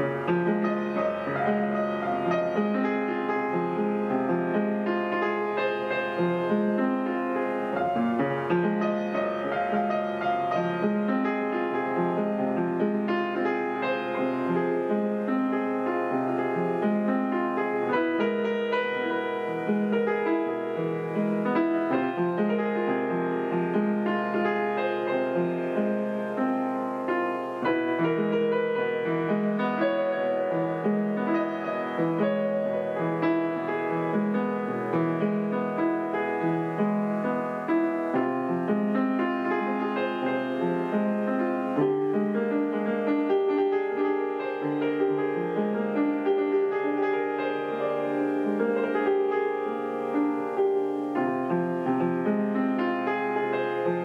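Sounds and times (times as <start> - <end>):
upright piano playing: 0.0 - 54.0.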